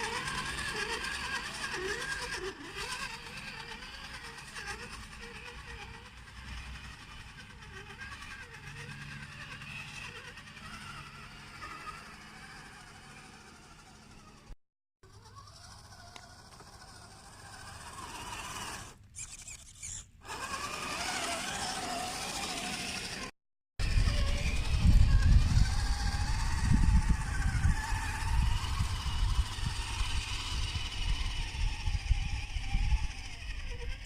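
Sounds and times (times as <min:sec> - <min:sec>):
toy car electric motor whining: 0:00.0 - 0:34.0.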